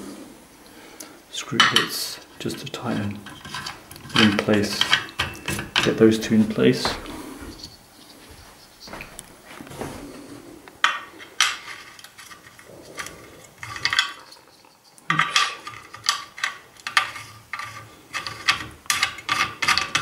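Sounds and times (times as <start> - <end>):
metal clinks and scrapes: 1.6 - 9.0, 10.8 - 20.0.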